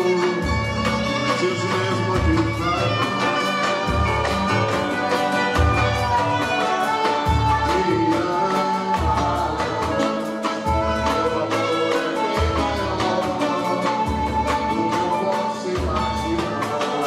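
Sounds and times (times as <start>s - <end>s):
music with steady beat: 0.0s - 17.0s.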